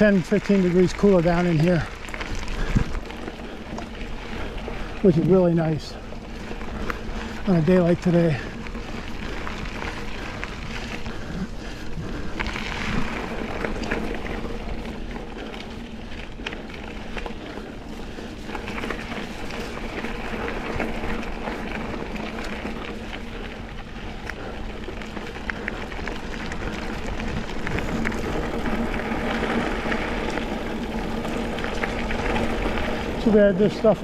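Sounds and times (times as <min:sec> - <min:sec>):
bike clicking and rattling: 0:00.0 - 0:34.0
bike tyres rolling on dirt: 0:00.0 - 0:34.0.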